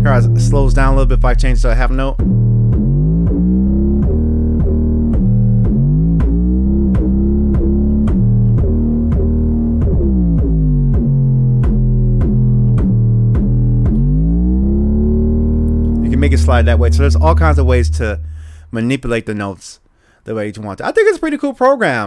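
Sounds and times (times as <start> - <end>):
synth bass gliding in pitch: 0.0 - 19.1
ticking beat: 0.0 - 19.1.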